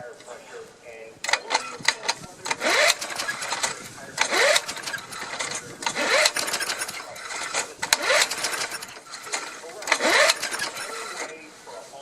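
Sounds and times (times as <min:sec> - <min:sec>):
lawn mower engine cranking: 0:01.2 - 0:11.4
recoil starter rope pulls: 0:01.2 - 0:11.4
loud rough engine rattle: 0:01.3 - 0:11.4.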